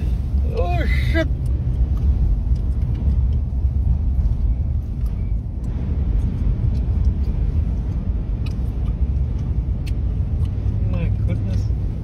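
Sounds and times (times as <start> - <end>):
vehicle cabin road and wind noise: 0.0 - 12.0.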